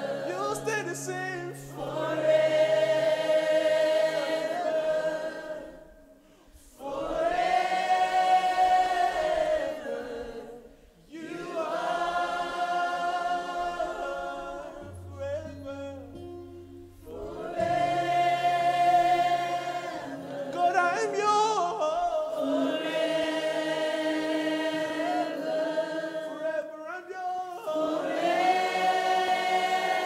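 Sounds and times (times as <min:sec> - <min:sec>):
group of voices singing: 0:00.0 - 0:16.4, 0:17.0 - 0:30.0.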